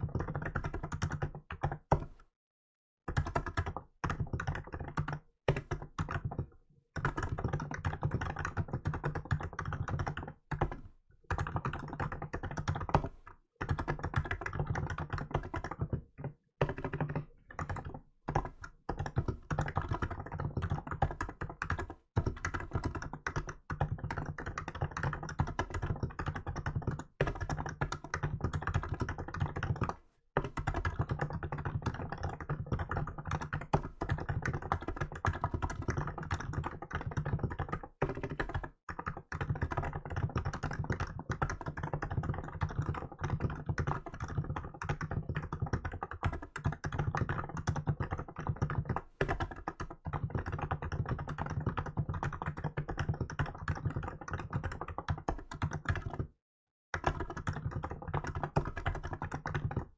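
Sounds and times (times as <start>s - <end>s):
fast typing on keyboard: 0.0s - 2.2s, 3.1s - 56.4s, 57.0s - 59.9s.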